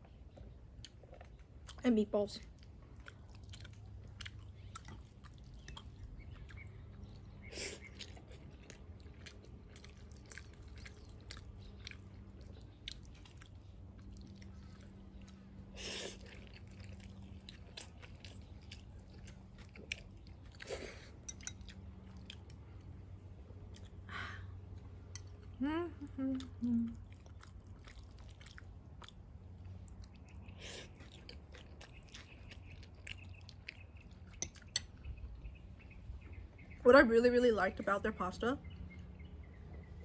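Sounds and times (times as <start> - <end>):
close chewing: 0.0 - 36.7
steady low hum: 0.0 - 40.0.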